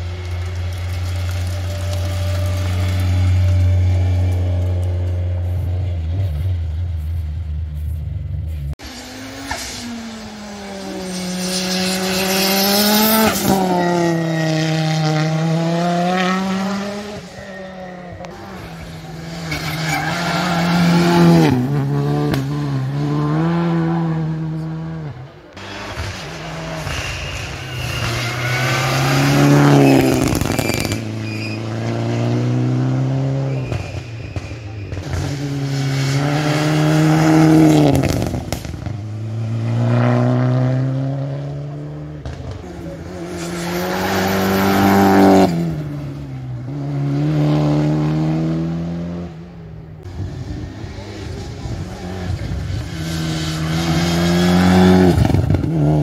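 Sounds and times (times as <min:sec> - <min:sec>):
rally car engine accelerating: 0:00.0 - 0:56.0
car passing at speed: 0:08.8 - 0:33.8, 0:35.0 - 0:56.0.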